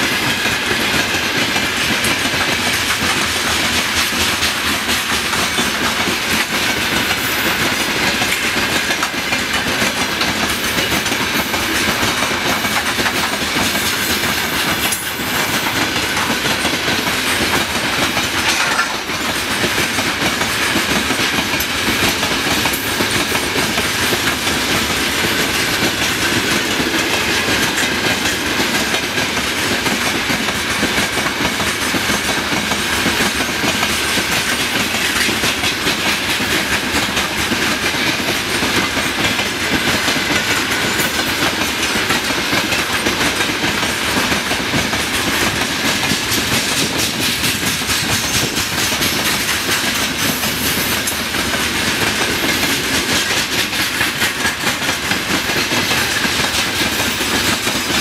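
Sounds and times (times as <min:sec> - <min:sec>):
rumble of moving train cars: 0:00.0 - 0:58.0
train wheels clacking on rail joints: 0:00.0 - 0:58.0.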